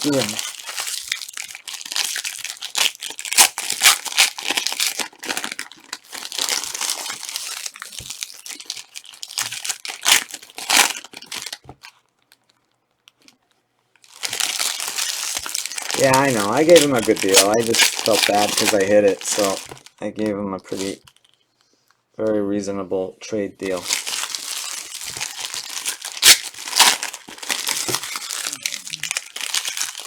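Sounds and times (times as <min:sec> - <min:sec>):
plastic wrappers crinkling and tearing: 0:00.0 - 0:21.9, 0:23.6 - 0:30.0.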